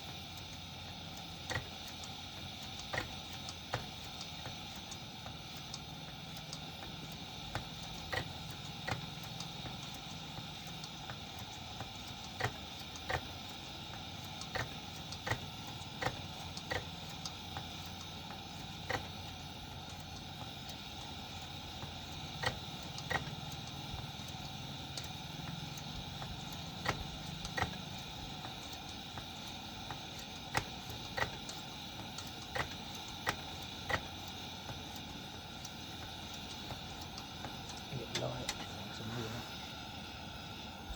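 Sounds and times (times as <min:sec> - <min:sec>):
sharp ticks: 0:00.0 - 0:39.0
pressure lantern hissing: 0:00.0 - 0:40.9.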